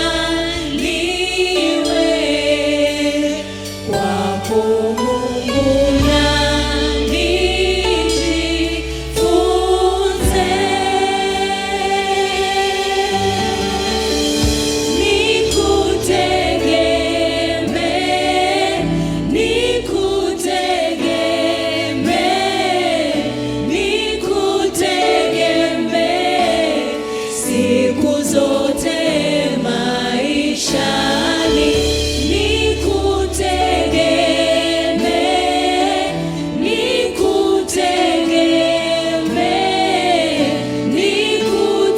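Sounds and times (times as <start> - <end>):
choir singing gospel song: 0.0 - 41.9
instrumental backing with bass: 0.0 - 41.9.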